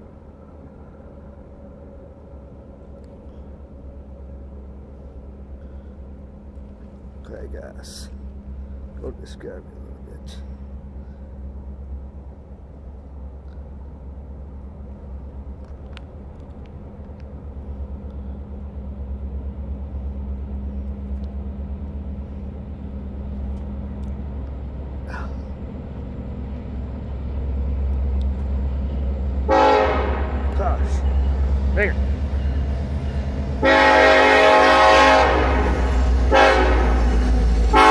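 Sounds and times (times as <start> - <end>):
diesel locomotive rumble: 0.0 - 37.9.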